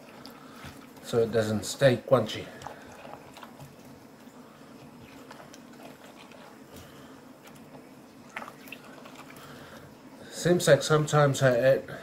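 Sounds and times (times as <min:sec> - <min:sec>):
hands squelching food: 0:00.0 - 0:10.1.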